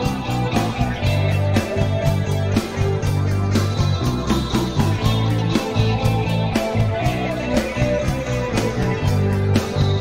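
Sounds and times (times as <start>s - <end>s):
drum kit playing: 0.0s - 10.0s
rock band recording: 0.0s - 10.0s.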